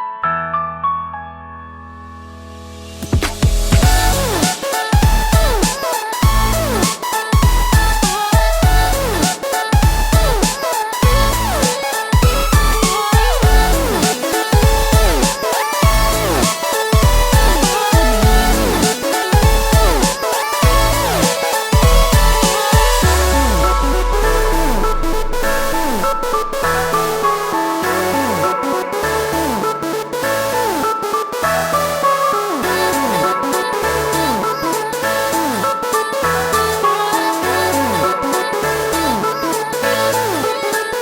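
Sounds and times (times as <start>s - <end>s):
electronic music with heavy beat: 3.1s - 41.0s
sliding synth tones: 3.2s - 41.0s.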